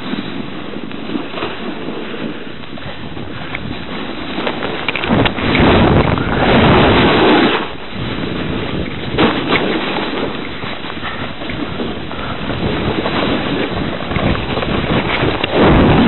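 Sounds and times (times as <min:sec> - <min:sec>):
snowboard edges scraping snow: 0:00.0 - 0:16.0
wind rushing over microphone: 0:00.0 - 0:16.0.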